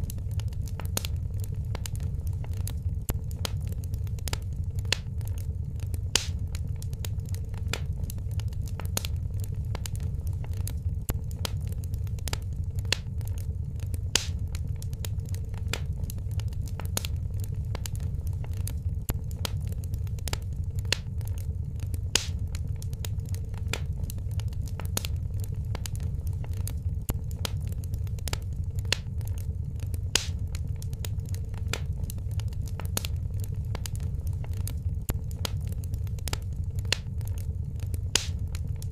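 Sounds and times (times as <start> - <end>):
steady low rumble: 0.0 - 38.9
wood fire crackling and popping: 0.0 - 38.9.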